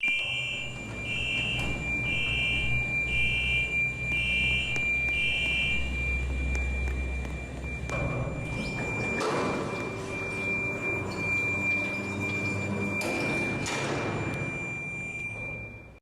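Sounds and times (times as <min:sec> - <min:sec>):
steady high whine: 0:00.0 - 0:15.9
electronic buzzer beeping: 0:00.0 - 0:16.0.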